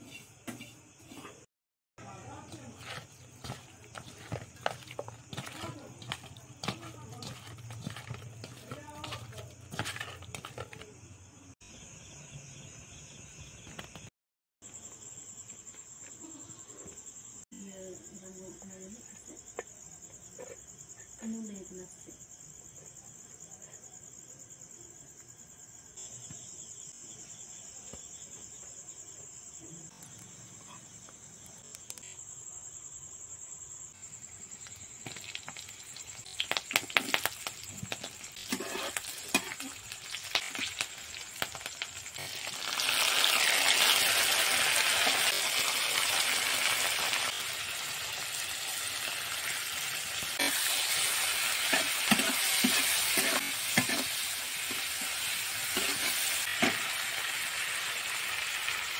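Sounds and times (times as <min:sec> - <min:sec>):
crickets chirring: 0:00.0 - 0:58.9.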